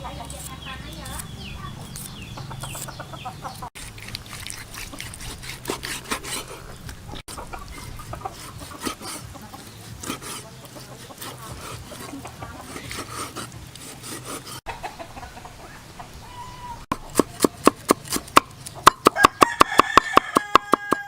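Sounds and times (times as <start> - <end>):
chickens clucking: 1.4 - 21.0.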